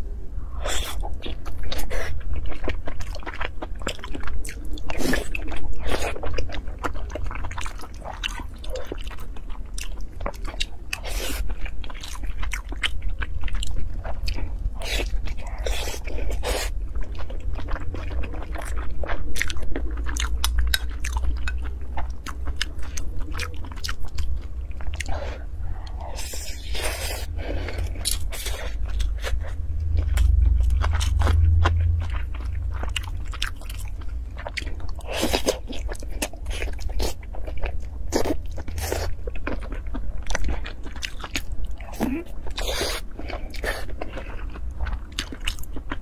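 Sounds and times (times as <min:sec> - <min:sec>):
steady low hum: 0:00.0 - 0:46.0
wet chewing mouth sounds: 0:00.6 - 0:46.0.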